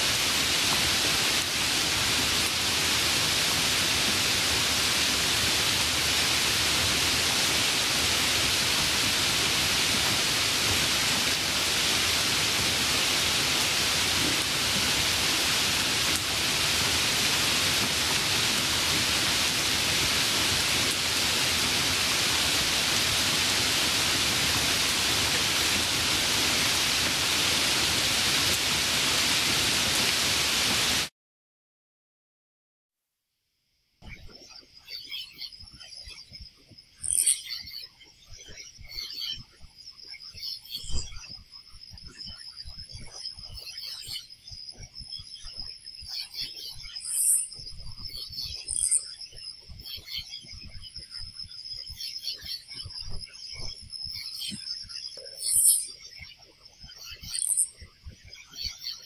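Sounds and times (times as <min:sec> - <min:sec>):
steady rain hissing: 0:00.0 - 0:31.1, 0:35.0 - 0:59.0.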